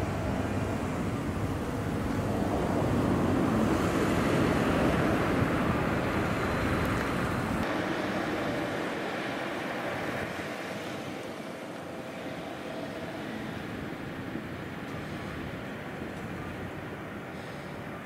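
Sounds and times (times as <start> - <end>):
train passing rumble: 0.0 - 18.0.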